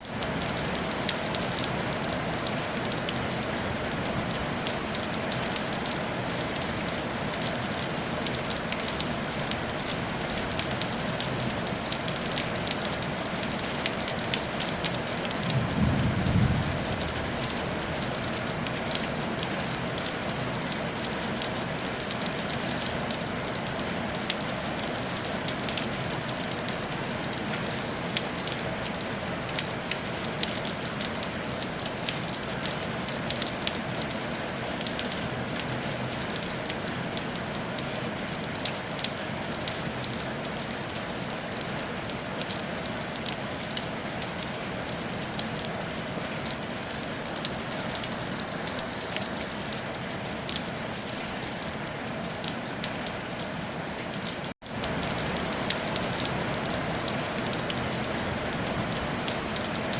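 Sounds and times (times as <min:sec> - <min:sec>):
rain on a tile roof: 0:00.0 - 0:59.9.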